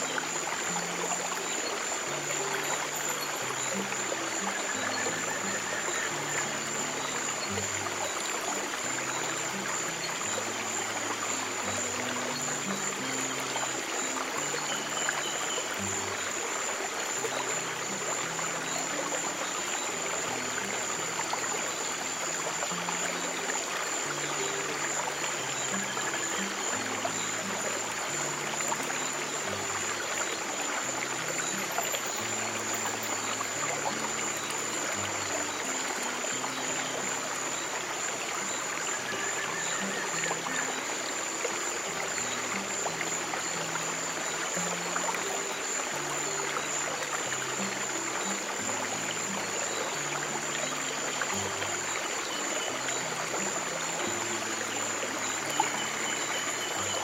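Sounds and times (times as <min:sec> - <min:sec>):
soft low background music: 0:00.0 - 0:57.0
stream water flowing: 0:00.0 - 0:57.0.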